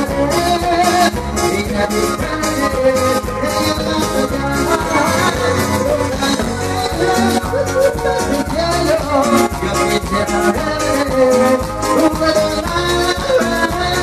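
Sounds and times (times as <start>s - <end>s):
live band playing dance music: 0.0s - 14.0s
percussion beat: 0.0s - 14.0s.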